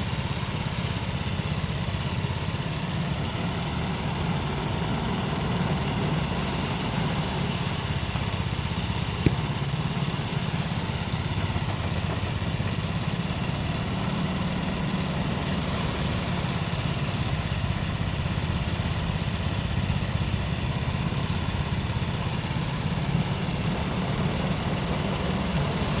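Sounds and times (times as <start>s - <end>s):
threshing machine engine running: 0.0s - 26.0s.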